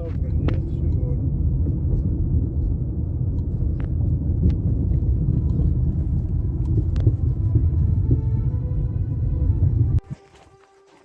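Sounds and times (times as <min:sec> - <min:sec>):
car interior rumble: 0:00.0 - 0:10.2.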